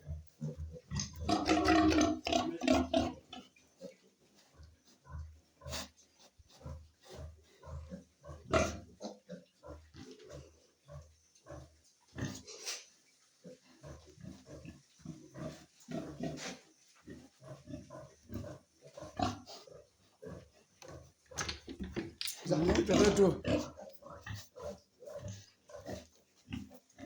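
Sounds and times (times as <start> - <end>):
pigs grunting: 0.0 - 4.0, 4.6 - 12.8, 13.5 - 27.0.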